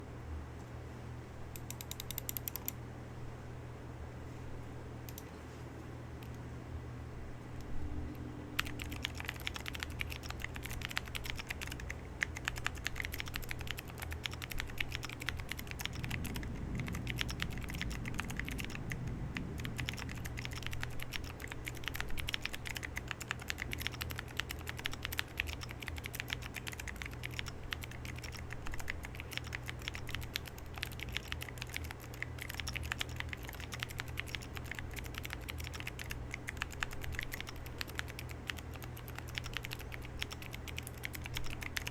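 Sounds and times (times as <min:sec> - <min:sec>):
fast mechanical keyboard typing: 0:01.6 - 0:02.8, 0:08.6 - 0:41.9.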